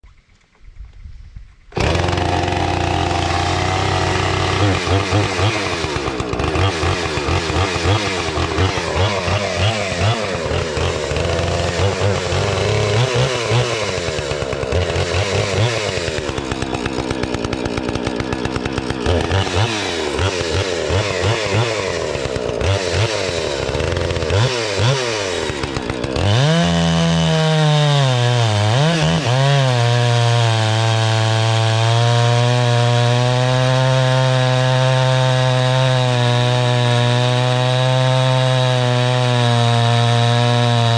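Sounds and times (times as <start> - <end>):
chainsaw cutting wood: 1.7 - 40.9.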